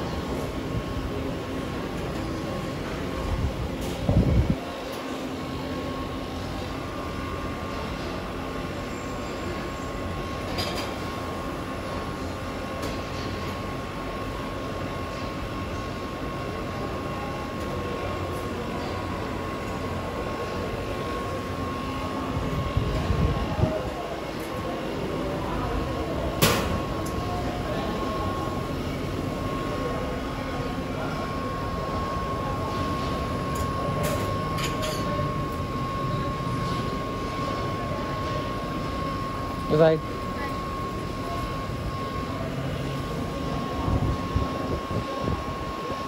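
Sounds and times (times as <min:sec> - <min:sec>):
faint high hum: 0:00.0 - 0:46.0
steady rumbling background noise: 0:00.0 - 0:46.0.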